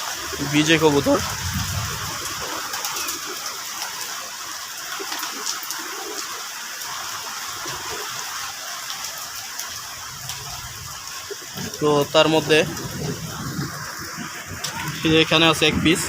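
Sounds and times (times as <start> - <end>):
steady rain falling: 0.0 - 16.0
water drip ticks: 2.0 - 15.1.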